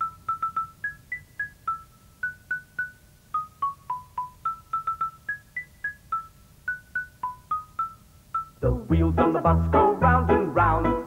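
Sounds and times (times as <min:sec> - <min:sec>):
high-pitched mallet instrument tune: 0:00.0 - 0:11.0.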